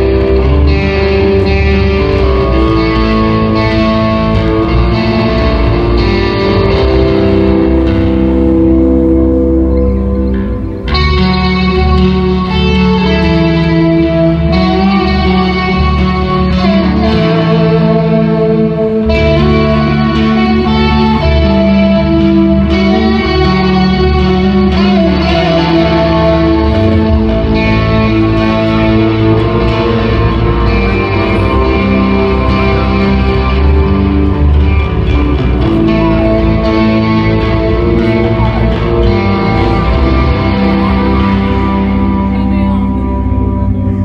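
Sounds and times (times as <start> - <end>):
electric guitar held notes: 0.0 - 44.0
live rock music: 0.0 - 44.0.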